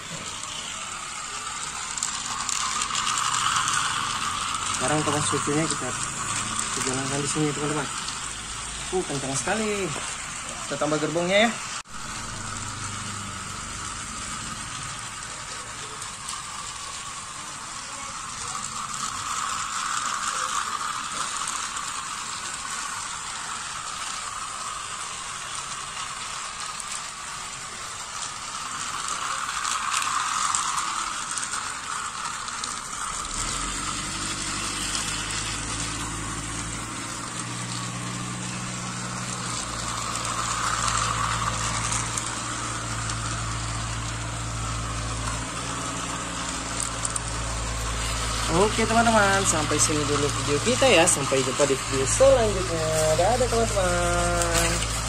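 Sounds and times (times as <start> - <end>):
toy trains whirring and rattling: 0.0 - 55.0.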